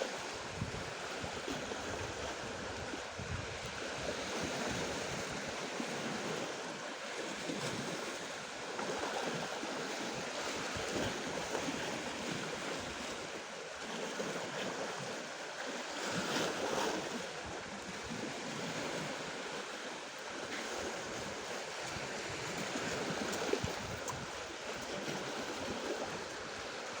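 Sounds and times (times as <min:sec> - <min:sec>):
surf washing onto shore: 0:00.0 - 0:27.0.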